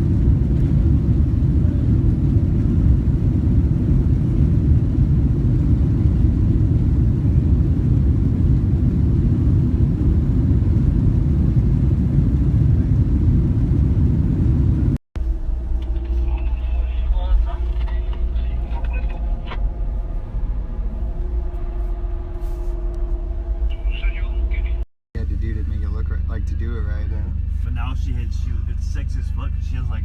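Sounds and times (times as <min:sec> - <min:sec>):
loud low rumble: 0:00.0 - 0:30.0.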